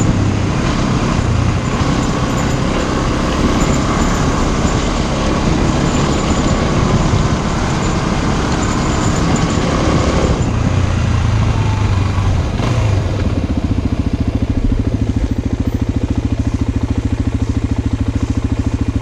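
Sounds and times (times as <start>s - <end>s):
motorcycle engine slowing and idling: 0.0s - 19.0s.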